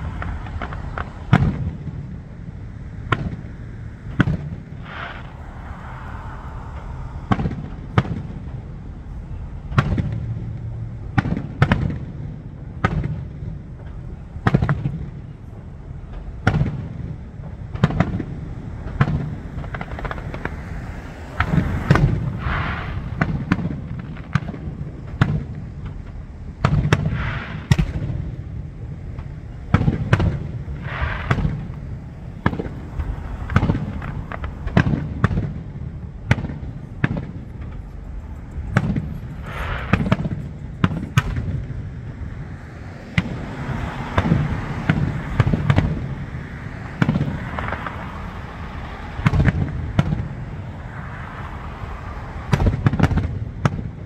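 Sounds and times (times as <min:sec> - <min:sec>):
fireworks booming: 0:00.0 - 0:54.0.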